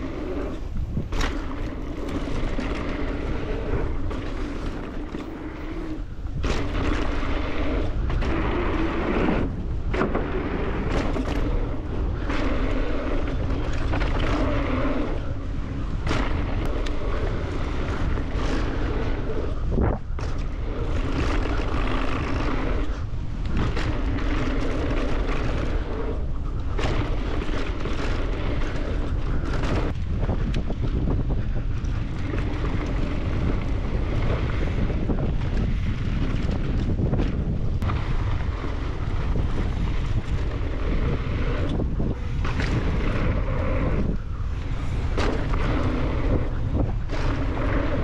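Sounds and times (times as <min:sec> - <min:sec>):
tyres rumbling on dirt trail: 0:00.0 - 0:48.0
wind rushing over microphone: 0:00.0 - 0:48.0.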